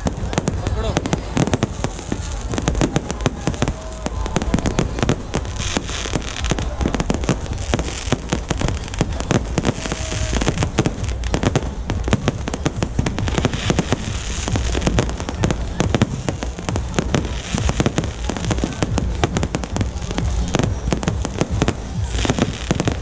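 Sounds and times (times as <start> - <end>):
fireworks bangs and crackles: 0.0 - 23.0
fireworks hissing: 0.0 - 23.0.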